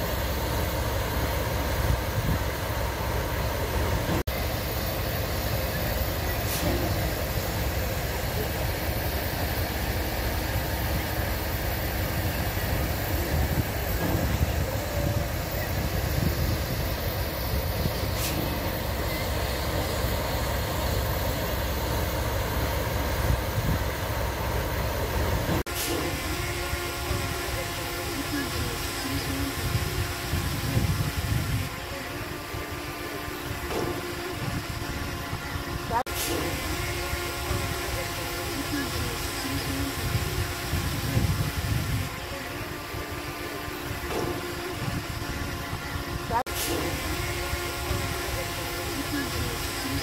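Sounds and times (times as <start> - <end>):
diesel locomotive idling: 0.0 - 50.0
steam hissing: 0.0 - 50.0.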